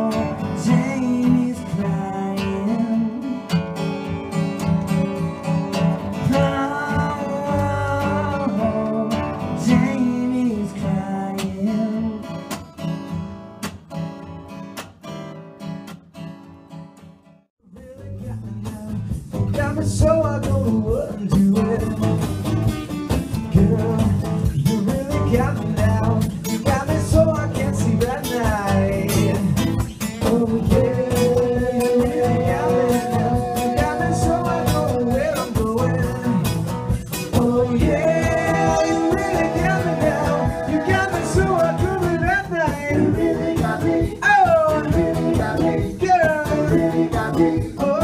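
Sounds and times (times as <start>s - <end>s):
man singing: 0.0s - 3.5s, 6.1s - 12.4s, 17.6s - 22.6s, 23.3s - 48.0s
acoustic guitars strumming: 0.0s - 48.0s.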